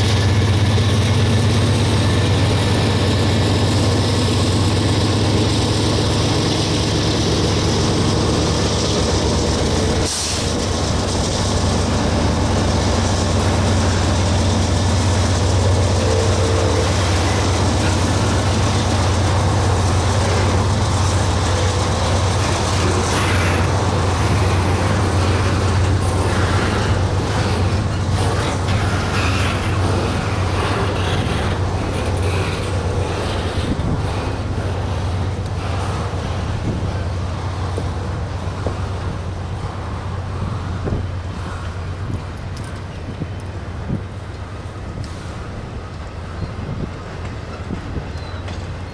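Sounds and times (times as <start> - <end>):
diesel locomotive hum: 0.0 - 48.9
rail cars rumbling over track: 0.0 - 48.9.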